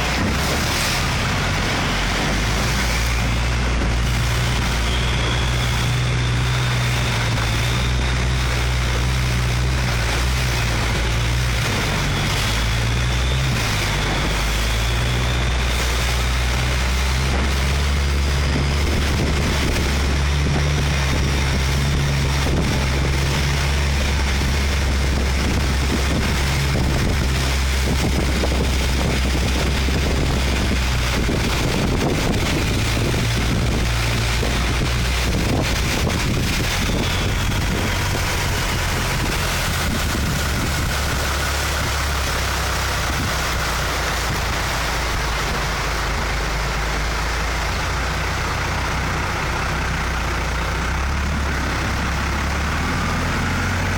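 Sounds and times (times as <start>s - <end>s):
boat engine running: 0.0s - 53.9s
wind on microphone: 0.0s - 53.9s.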